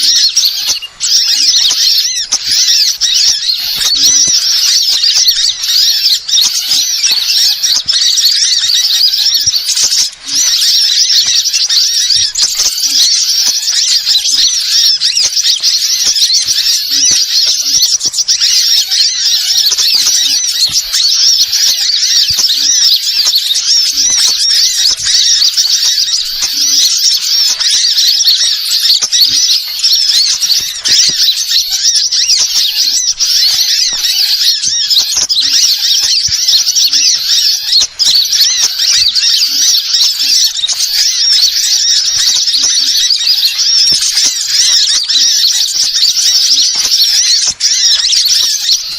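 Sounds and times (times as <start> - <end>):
small birds twittering: 0.0 - 48.9.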